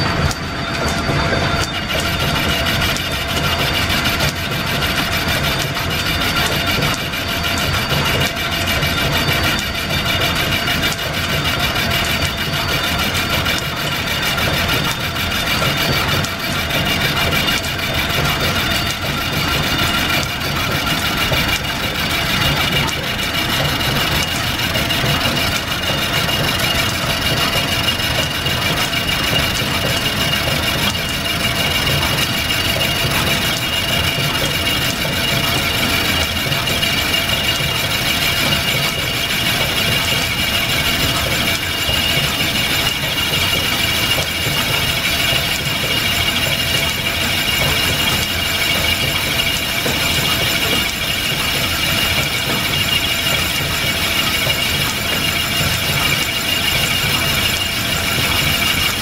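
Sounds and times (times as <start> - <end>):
high machine whine: 0.0 - 59.0
lathe running: 0.0 - 59.0.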